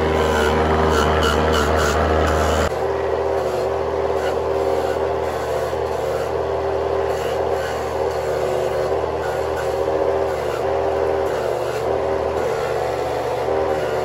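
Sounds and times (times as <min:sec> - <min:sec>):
motorized grater humming: 0:00.0 - 0:14.0.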